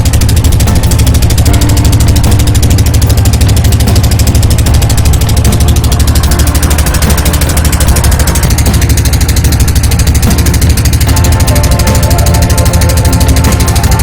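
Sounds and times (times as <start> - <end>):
motorboat engine chugging: 0.0 - 14.0.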